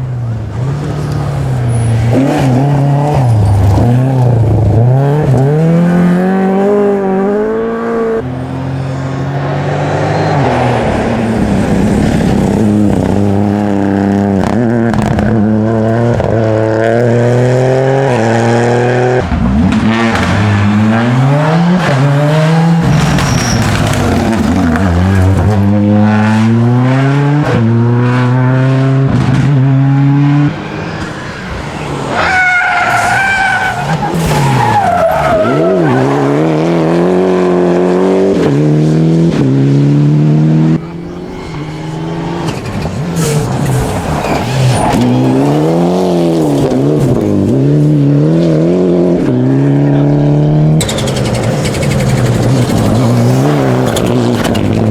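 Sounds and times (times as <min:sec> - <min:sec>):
rally car engine accelerating: 0:00.0 - 0:54.9.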